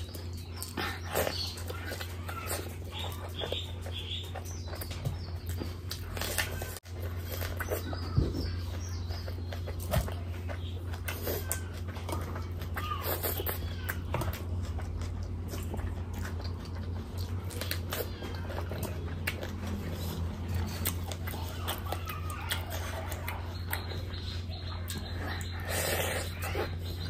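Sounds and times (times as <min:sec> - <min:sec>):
wet chewing and lip-smacking: 0:00.0 - 0:27.0.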